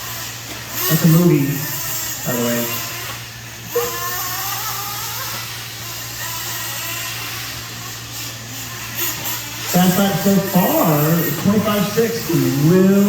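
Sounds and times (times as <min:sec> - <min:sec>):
rc truck engines whining: 0:00.0 - 0:13.0
steady low hum: 0:00.0 - 0:13.0.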